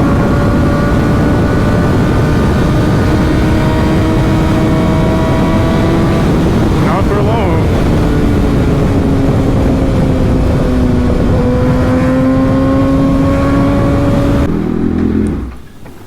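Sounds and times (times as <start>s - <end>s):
wind rush: 0.0s - 15.8s
motorcycle engine at speed: 0.0s - 16.0s
rough low engine sound: 0.0s - 16.0s.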